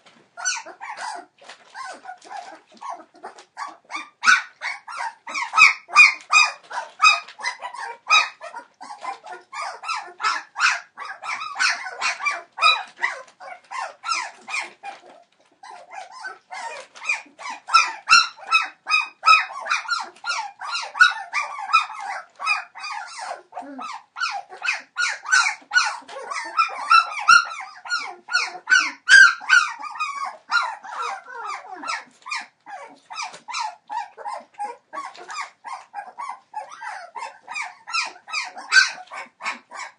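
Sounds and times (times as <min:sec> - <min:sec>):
puppies whining and yelping: 0:00.0 - 0:39.9.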